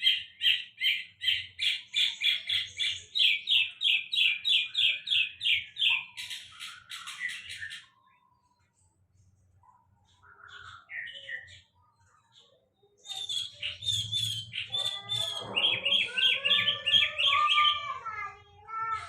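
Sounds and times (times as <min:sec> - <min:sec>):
songbird warbling song: 0:00.0 - 0:08.8, 0:09.6 - 0:18.0.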